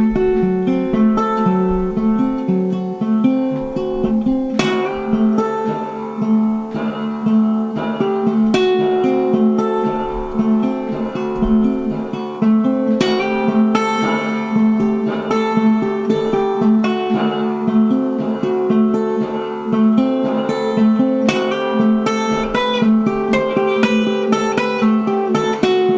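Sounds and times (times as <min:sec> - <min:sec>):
acoustic guitar music: 0:00.0 - 0:25.9.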